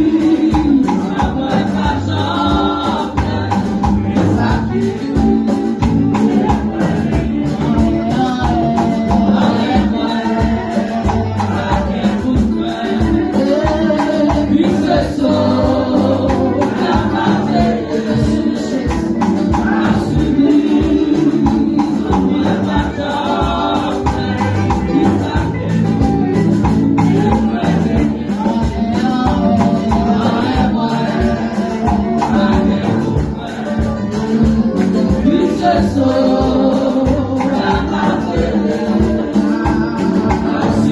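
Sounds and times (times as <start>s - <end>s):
instrumental accompaniment with beat: 0.0s - 40.9s
women singing gospel song: 0.0s - 40.9s.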